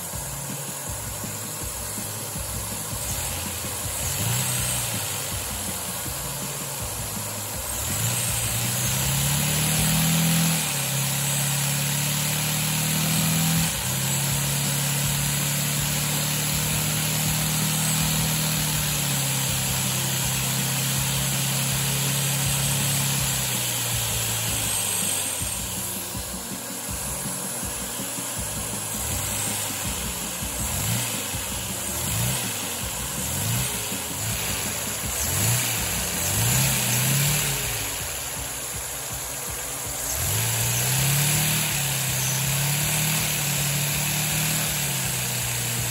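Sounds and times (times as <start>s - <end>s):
small engine buzzing clatter: 0.0s - 45.9s
vacuum suction hiss: 0.0s - 45.9s.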